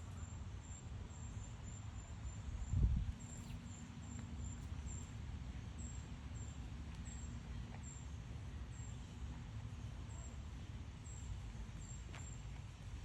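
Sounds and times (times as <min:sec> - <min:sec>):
faint high insect chirp: 0:00.0 - 0:12.6.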